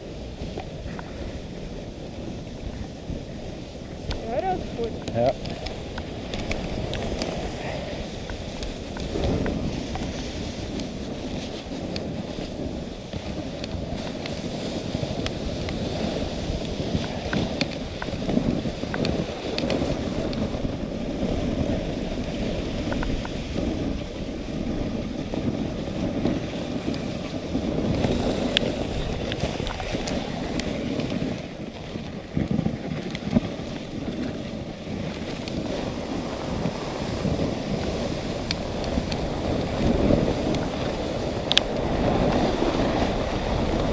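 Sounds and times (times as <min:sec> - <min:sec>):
sled clicks and knocks: 0:00.0 - 0:43.9
sled runners rushing over snow: 0:00.0 - 0:43.9
wind on microphone: 0:00.0 - 0:43.9.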